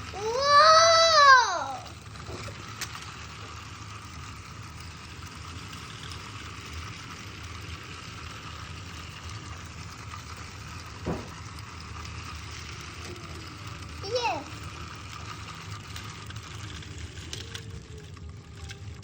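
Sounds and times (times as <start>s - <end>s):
toy car whirring: 0.0s - 19.0s.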